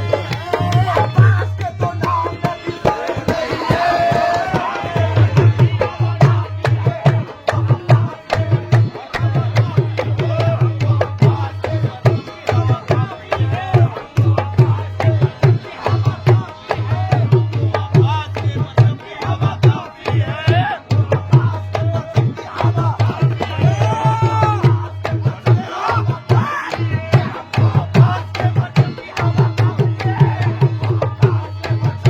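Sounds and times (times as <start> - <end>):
hand drums fast rhythm: 0.0 - 32.0.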